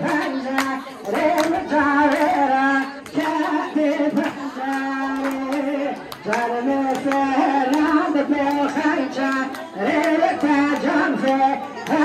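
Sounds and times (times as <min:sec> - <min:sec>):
hands clapping: 0:00.0 - 0:12.0.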